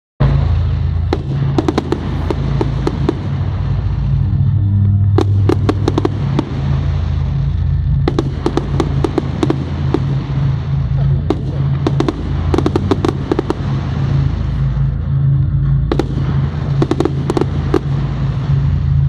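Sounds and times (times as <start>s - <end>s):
fireworks popping and crackling: 0.2s - 19.0s
loud low-pitched music: 0.2s - 19.0s.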